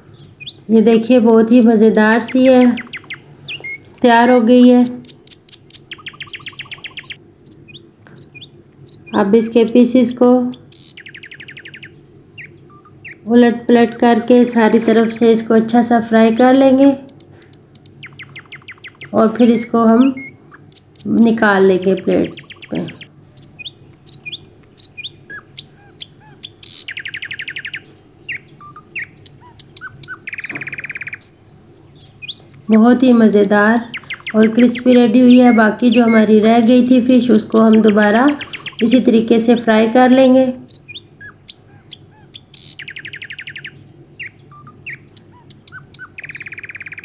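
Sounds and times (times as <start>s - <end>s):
low steady hum: 0.0s - 47.0s
small birds chirping: 0.0s - 47.0s.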